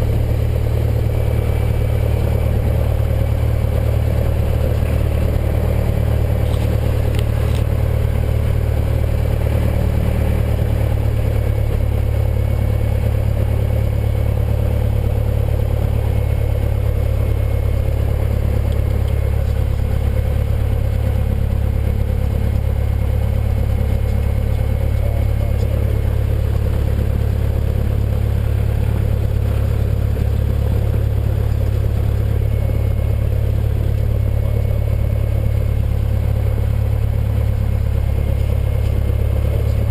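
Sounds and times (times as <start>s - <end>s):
propeller plane engine idling: 0.0s - 39.9s.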